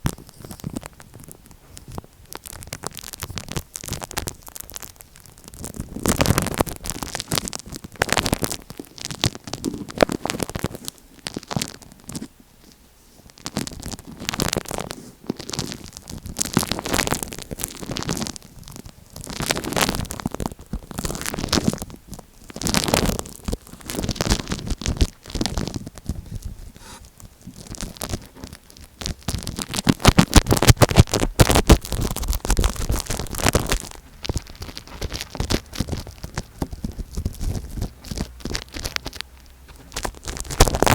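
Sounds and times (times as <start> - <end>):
tape scratching on microphone: 0.0 - 40.9.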